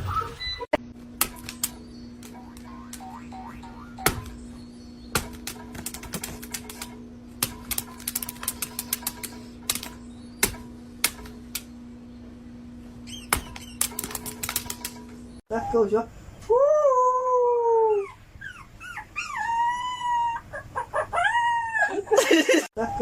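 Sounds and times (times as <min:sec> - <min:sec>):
steady low hum: 0:00.7 - 0:20.8.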